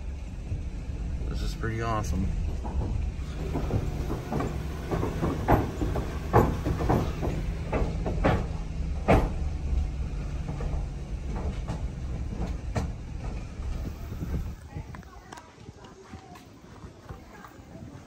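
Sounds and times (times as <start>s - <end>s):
tyres rumbling on wooden deck: 0.0s - 18.0s
wheels knocking on boards: 0.5s - 15.4s.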